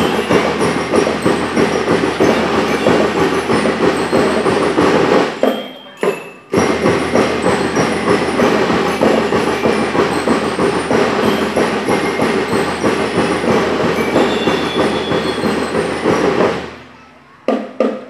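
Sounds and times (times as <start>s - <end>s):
marching drums beating: 0.0s - 16.9s, 17.5s - 18.0s
drum and lyre band playing: 0.0s - 18.0s.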